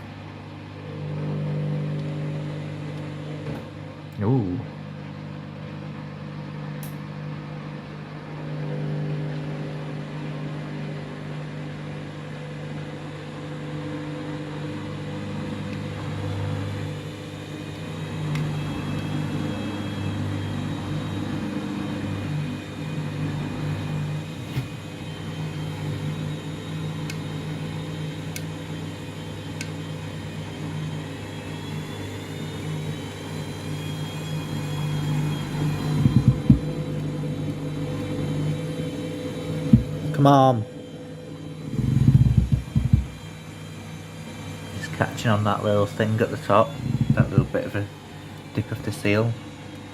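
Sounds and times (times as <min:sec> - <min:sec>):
washing machine motor humming: 0:00.0 - 0:49.9
high motor whine: 0:08.3 - 0:49.9.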